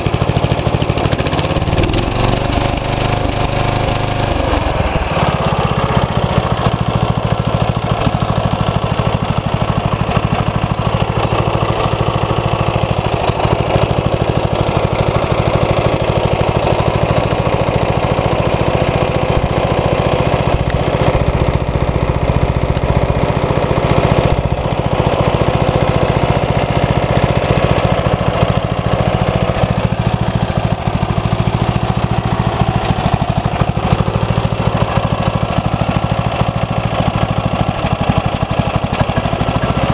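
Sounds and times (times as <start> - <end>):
riding mower engine running: 0.0 - 39.9.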